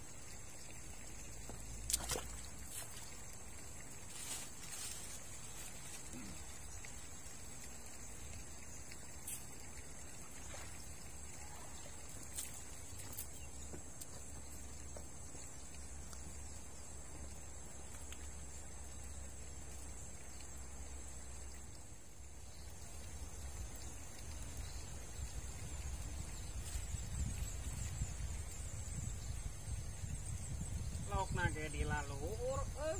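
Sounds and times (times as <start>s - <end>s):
high insect drone: 0.0s - 32.9s.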